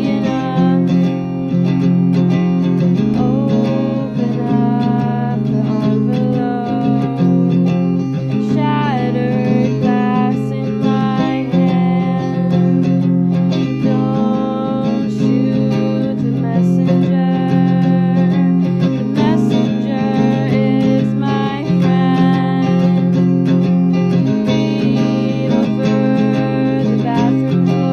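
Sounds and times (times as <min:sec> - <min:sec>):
acoustic guitar strumming chords: 0:00.0 - 0:27.9.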